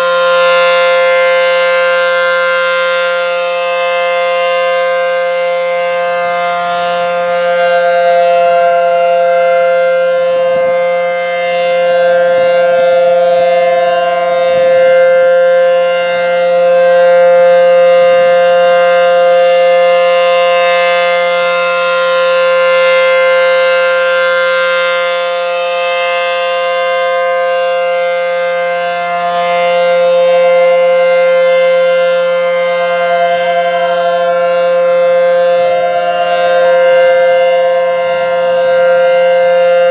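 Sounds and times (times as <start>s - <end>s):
warning siren: 0.0s - 39.9s.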